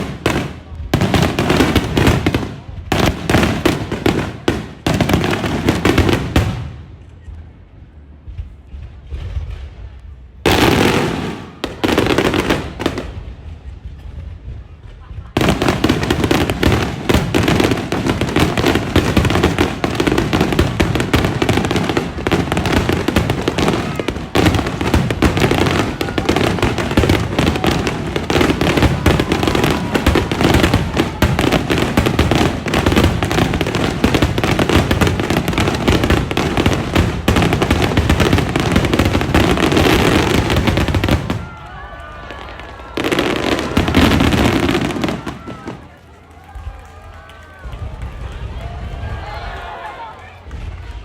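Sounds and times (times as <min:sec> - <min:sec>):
fireworks booming and crackling: 0:00.0 - 0:51.0.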